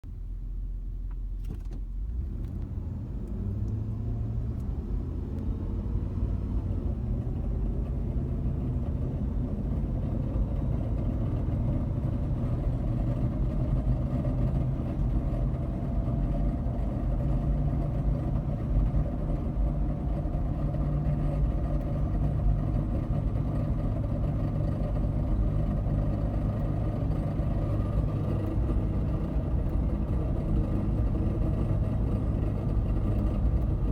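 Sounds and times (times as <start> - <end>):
car engine low drone: 0.0 - 33.9.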